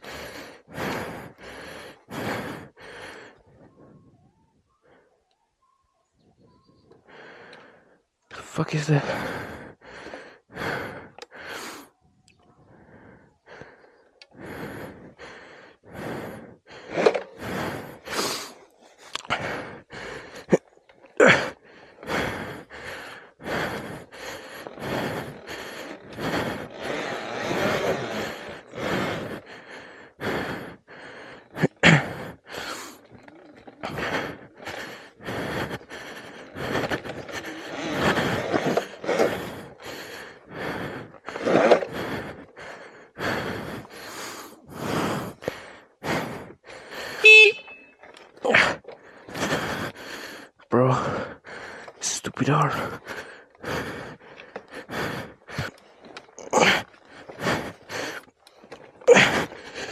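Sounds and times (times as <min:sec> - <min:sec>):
person panting hard: 0:00.0 - 0:04.0, 0:07.0 - 0:59.9.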